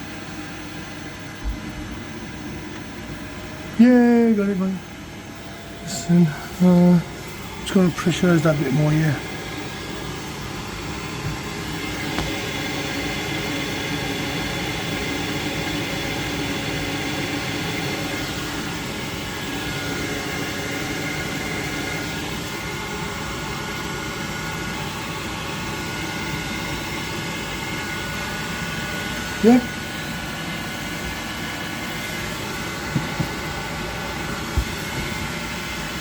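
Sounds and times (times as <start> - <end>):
gas boiler whooshing: 5.6 - 36.0.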